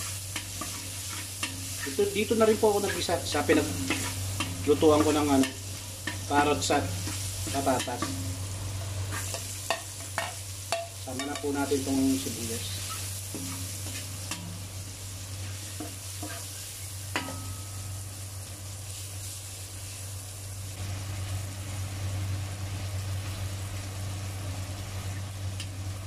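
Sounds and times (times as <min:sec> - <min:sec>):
onion and garlic sizzling in oil: 0:00.0 - 0:26.0.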